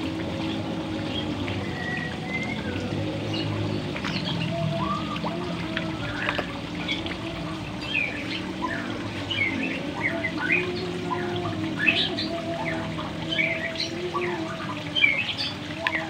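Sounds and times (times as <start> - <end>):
birds chirping: 0.0 - 16.0
fish splashing in pond water: 0.0 - 16.0.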